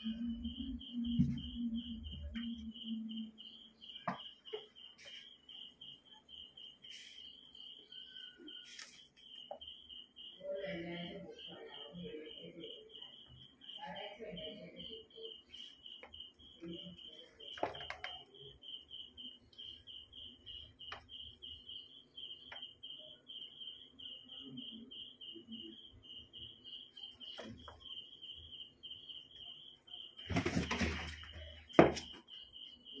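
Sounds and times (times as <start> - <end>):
cricket chirping: 0.0 - 33.0.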